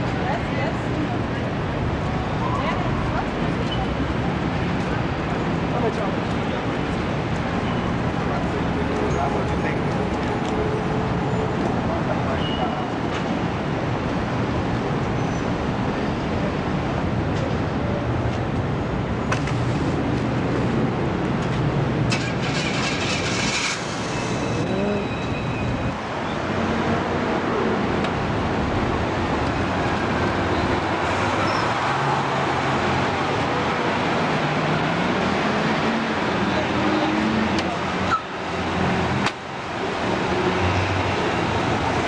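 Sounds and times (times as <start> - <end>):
bus passing close: 0.0 - 42.0
traffic rumble: 0.0 - 42.0.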